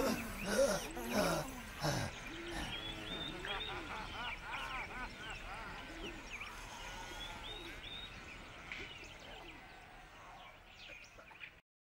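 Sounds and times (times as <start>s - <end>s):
background hiss: 0.0s - 11.2s
faint birds chirping: 0.0s - 11.6s.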